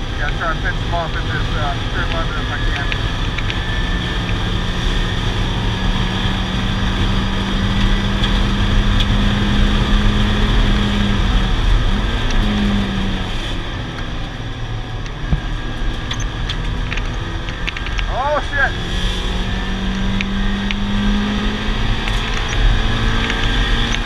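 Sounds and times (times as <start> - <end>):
race car engine running hard: 0.0 - 24.0
wind and road noise: 0.0 - 24.0.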